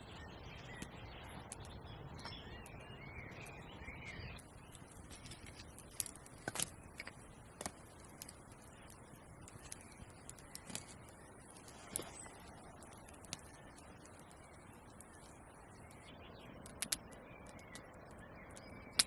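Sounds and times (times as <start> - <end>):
birds chirping: 0.0 - 19.0
outdoor background noise: 0.0 - 19.0.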